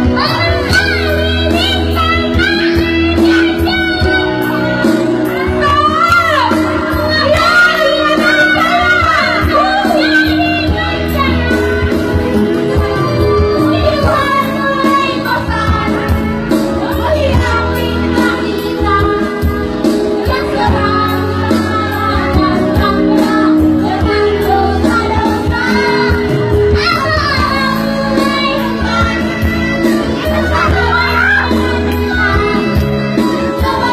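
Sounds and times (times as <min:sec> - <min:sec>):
child singing: 0:00.0 - 0:11.9, 0:12.8 - 0:16.2, 0:16.8 - 0:33.9.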